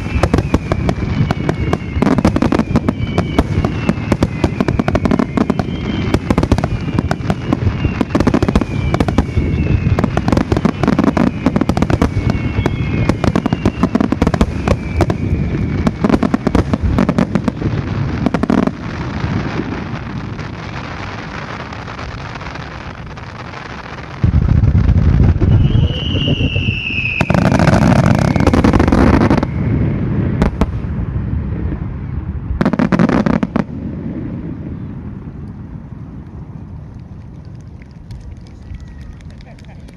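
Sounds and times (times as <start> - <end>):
fireworks falling whistles: 0.0 - 31.0, 31.6 - 34.9
fireworks booming and crackling: 0.0 - 39.9.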